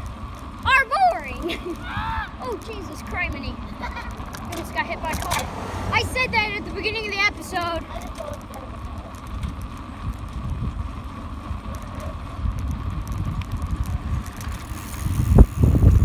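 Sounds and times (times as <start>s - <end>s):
wind rumbling on microphone: 1.8s - 16.0s.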